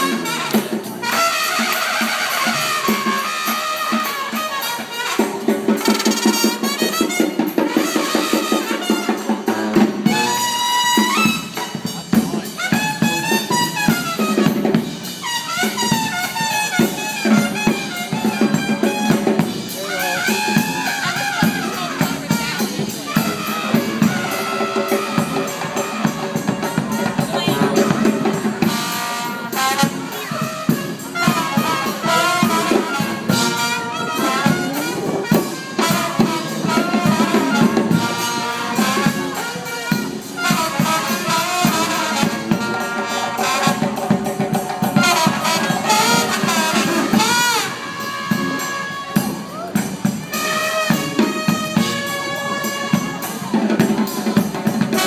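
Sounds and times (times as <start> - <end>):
steady drum beat: 0.0 - 55.0
trumpets playing melody: 0.0 - 55.0.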